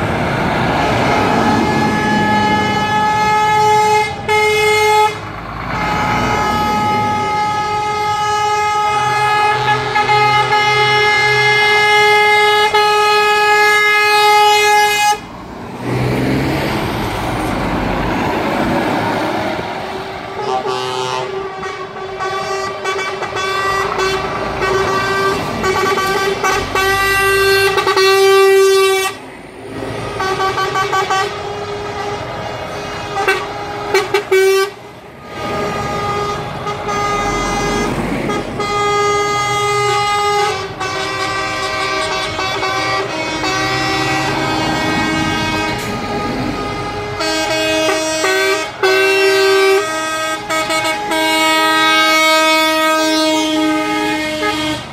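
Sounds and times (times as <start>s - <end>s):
diesel engines running: 0.0s - 54.9s
truck air horns: 0.6s - 18.3s, 19.1s - 54.9s.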